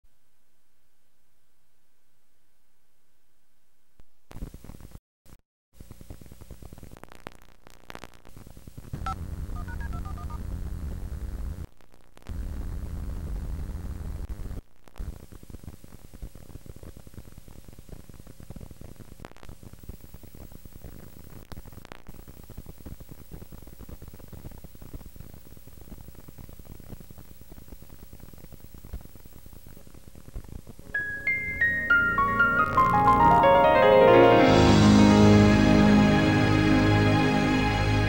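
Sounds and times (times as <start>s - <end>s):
tape hiss and low hum: 5.8s - 38.0s.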